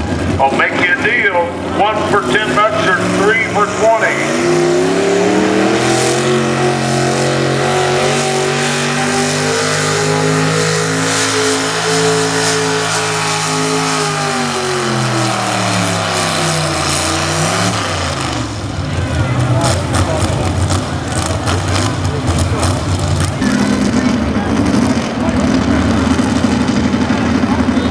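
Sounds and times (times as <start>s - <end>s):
pulling truck engine revving: 0.0s - 27.9s.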